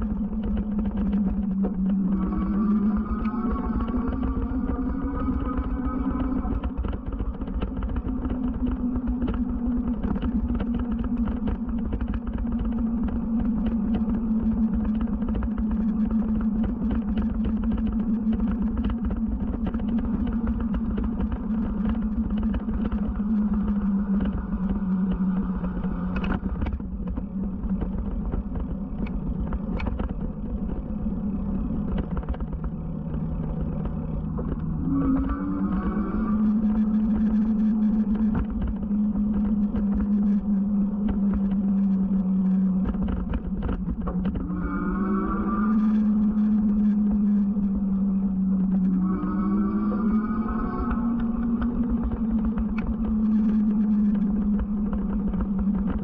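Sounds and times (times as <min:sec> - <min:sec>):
electric bike motor whining: 0:00.0 - 0:56.0
wind and tyre rumble: 0:00.0 - 0:56.0.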